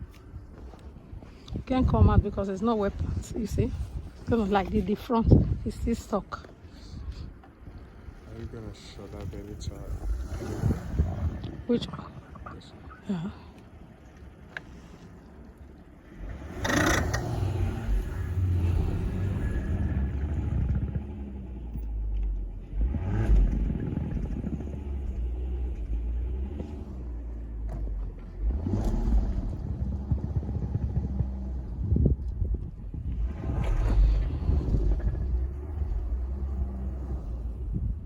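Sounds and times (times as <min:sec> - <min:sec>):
car engine rumbling: 0:00.0 - 0:38.0.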